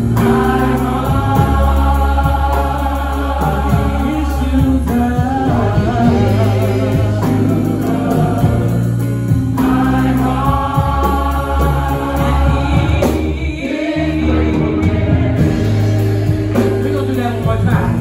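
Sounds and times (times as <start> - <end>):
choir singing gospel: 0.0 - 18.0
instrumental backing: 0.0 - 18.0
steady low bass: 0.0 - 18.0.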